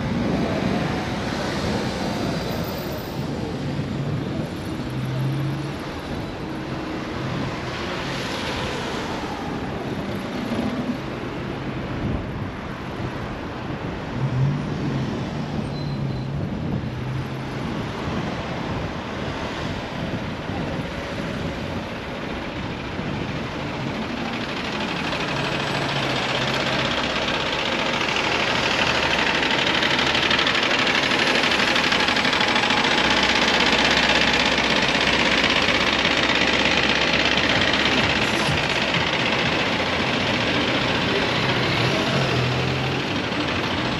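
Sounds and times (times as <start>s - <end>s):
car and bus engines: 0.0s - 43.9s
rushing noise: 0.0s - 43.9s.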